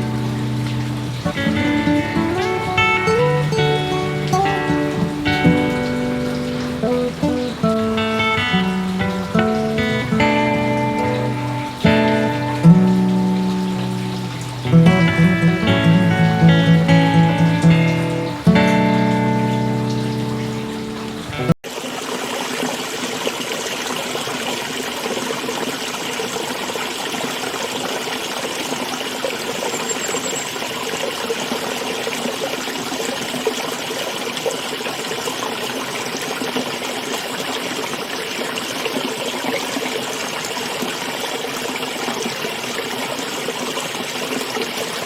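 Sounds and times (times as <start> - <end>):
running water flowing: 0.0 - 45.0.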